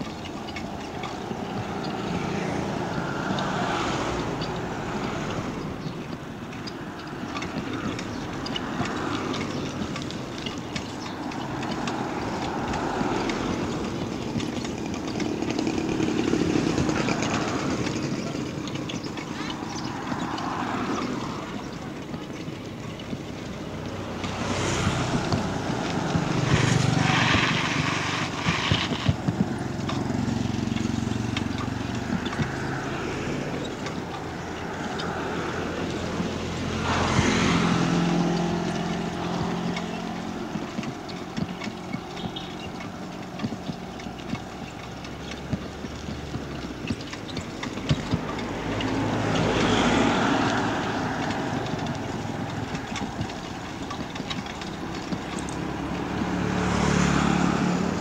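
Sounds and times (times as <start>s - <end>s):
cars and van passing: 0.0s - 58.0s.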